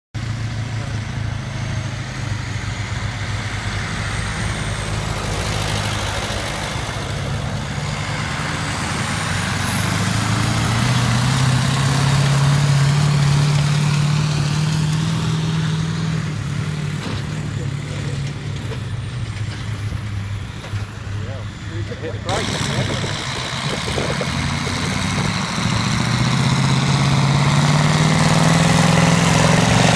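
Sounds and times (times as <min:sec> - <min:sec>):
tractor engine under heavy load: 0:00.1 - 0:29.9.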